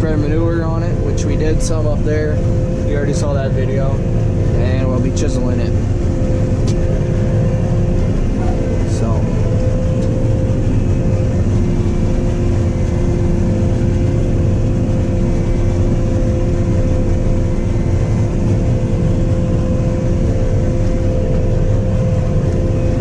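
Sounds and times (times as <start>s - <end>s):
low engine rumble: 0.0s - 23.0s
mid-pitched machine whine: 0.0s - 23.0s.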